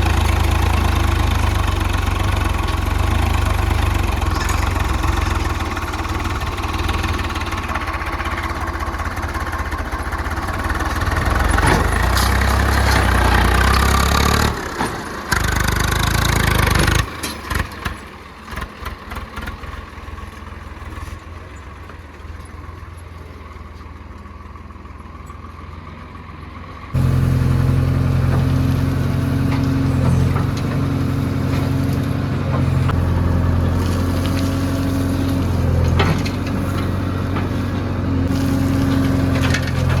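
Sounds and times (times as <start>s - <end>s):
diesel engine revving: 0.0s - 21.4s, 26.8s - 40.0s
loud steady engine: 0.0s - 40.0s.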